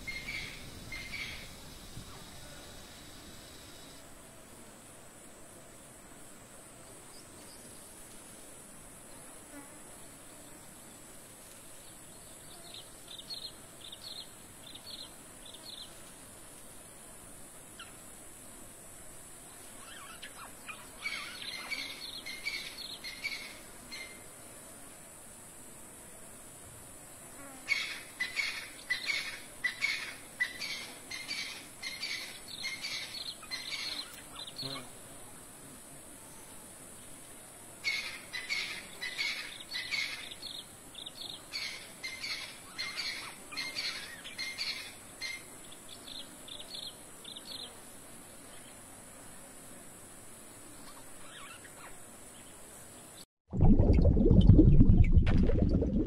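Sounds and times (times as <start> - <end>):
insects droning: 0.0 - 53.2.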